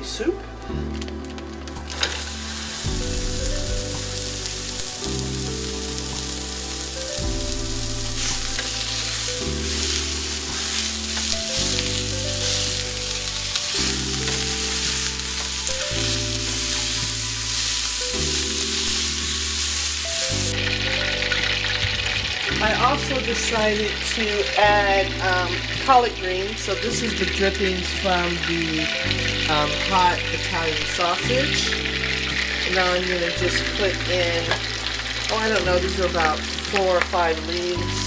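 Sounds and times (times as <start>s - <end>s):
background music: 0.0s - 38.0s
sausage sizzling in skillet: 0.9s - 38.0s.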